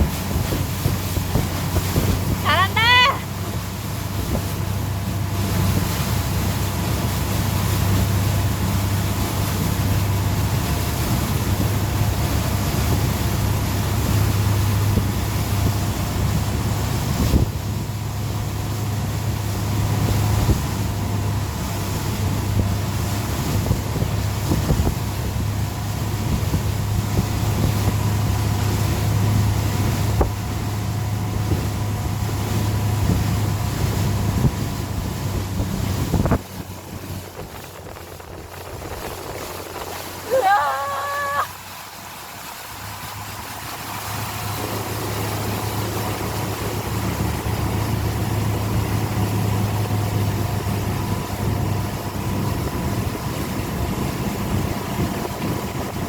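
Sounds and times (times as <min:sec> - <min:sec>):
wind noise on microphone: 0:00.0 - 0:41.5, 0:42.7 - 0:56.0
boat engine droning: 0:00.0 - 0:56.0.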